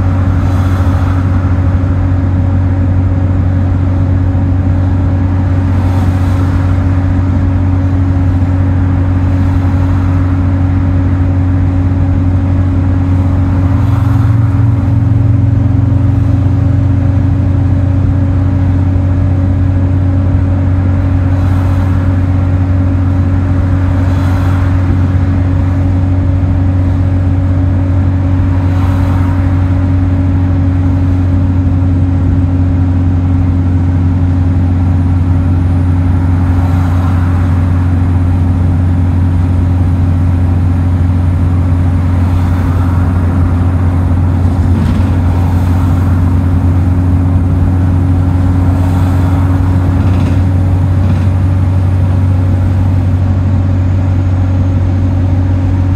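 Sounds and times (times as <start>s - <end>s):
bus drivetrain hum: 0.0s - 55.9s
road noise: 0.0s - 55.9s
steady tone: 0.0s - 55.9s.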